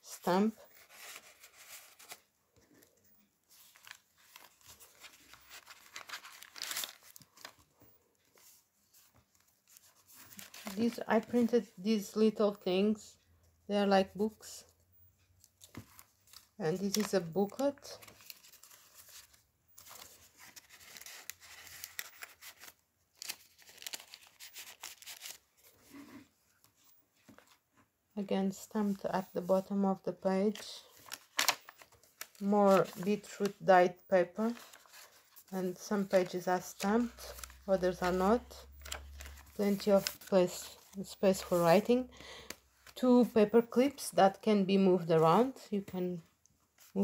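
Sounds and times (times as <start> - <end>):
paper rustling and crinkling: 0.0 - 11.7, 15.4 - 27.9, 28.6 - 43.2, 46.7 - 47.0.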